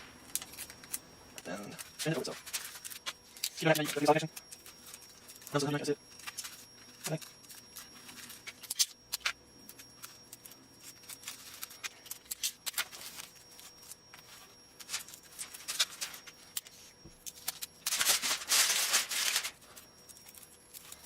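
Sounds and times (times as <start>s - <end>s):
foil and tape crackling: 0.0s - 21.0s
foil crinkling rasp: 0.4s - 21.0s.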